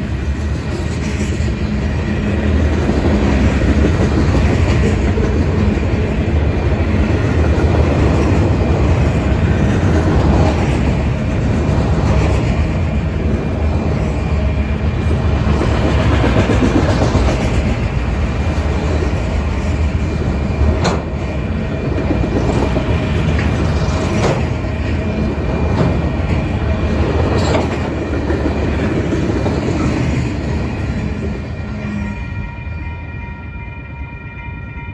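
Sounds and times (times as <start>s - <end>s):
clickety-clack over rail joints: 0.0s - 32.0s
train wheels rumbling on rails: 0.0s - 33.9s.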